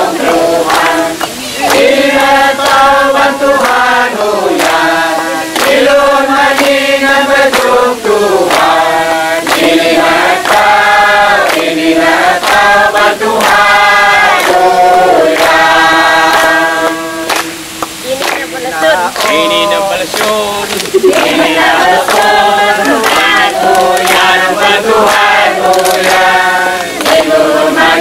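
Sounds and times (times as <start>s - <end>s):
group singing a hymn: 0.0s - 28.0s
sharp beat keeping time: 0.0s - 28.0s.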